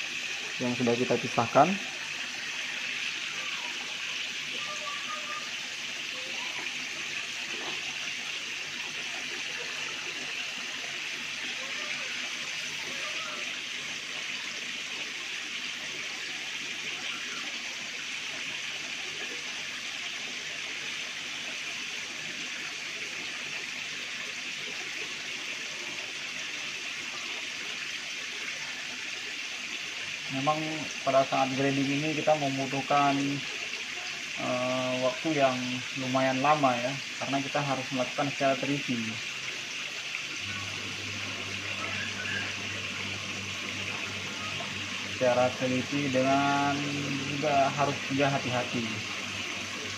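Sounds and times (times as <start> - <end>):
water rushing into tanks: 0.0 - 49.9.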